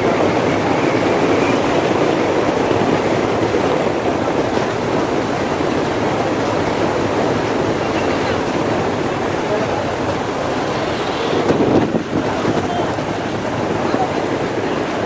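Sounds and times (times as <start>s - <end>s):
moving train rushing: 0.0s - 15.0s
wind on microphone: 0.0s - 15.0s.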